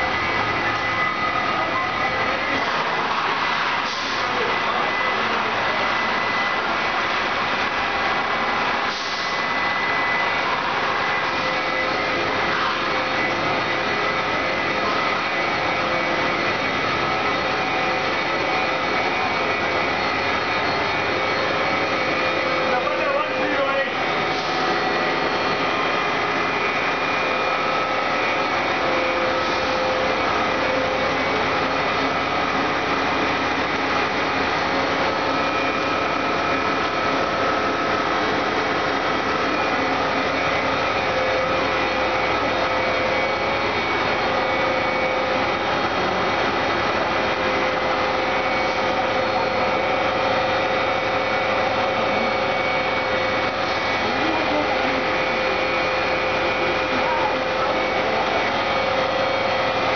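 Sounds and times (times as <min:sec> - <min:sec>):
machinery hum and hiss: 0:00.0 - 0:59.9.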